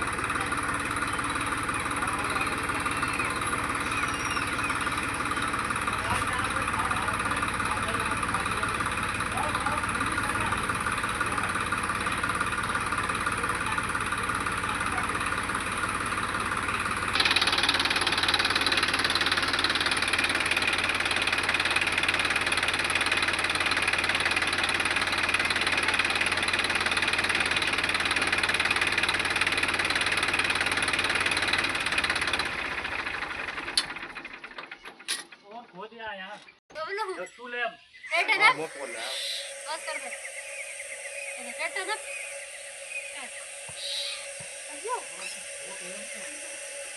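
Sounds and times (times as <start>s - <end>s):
tractor engine running: 0.0s - 37.0s, 38.2s - 46.9s.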